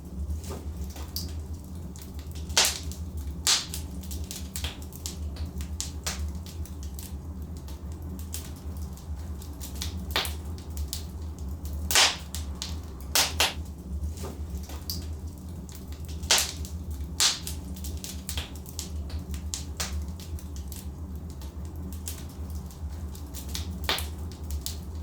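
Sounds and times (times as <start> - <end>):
low rumble of flames: 0.0 - 25.0
wood fire crackling: 0.0 - 25.0
sharp pops from burning logs: 2.0 - 13.7, 15.7 - 24.8.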